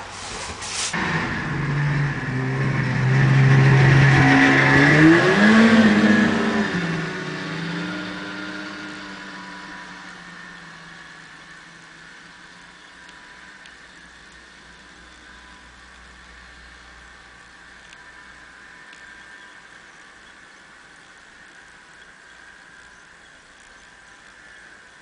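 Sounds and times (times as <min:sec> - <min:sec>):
snowmobile engine revving: 0:00.0 - 0:20.6.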